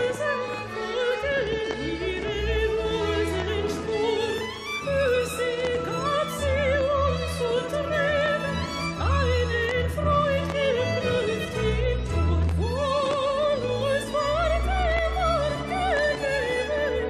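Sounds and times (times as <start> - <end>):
orchestral accompaniment: 0.0 - 17.0
woman singing operatically: 0.0 - 17.0.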